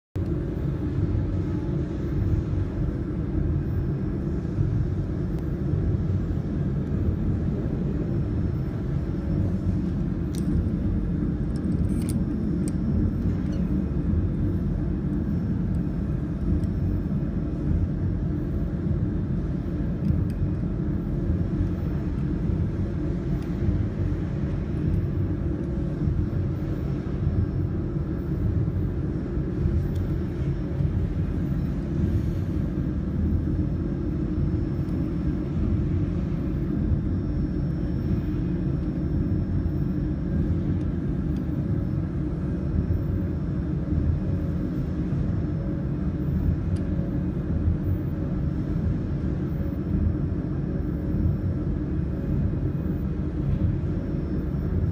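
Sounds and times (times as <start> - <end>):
machinery humming: 0.2 - 54.9.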